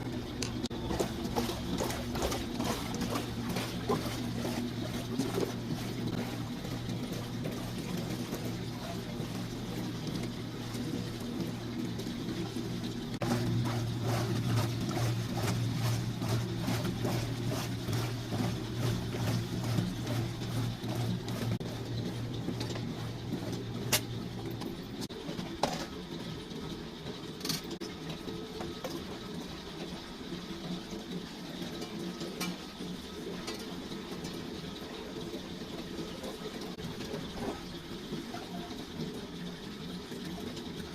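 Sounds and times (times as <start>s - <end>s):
washing machine motor hum: 0.0s - 40.9s.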